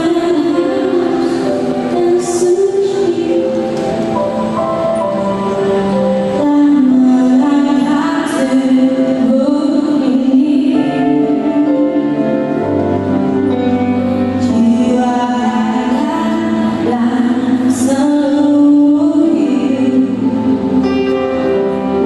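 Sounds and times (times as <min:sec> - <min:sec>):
slow song with singing: 0:00.0 - 0:22.0.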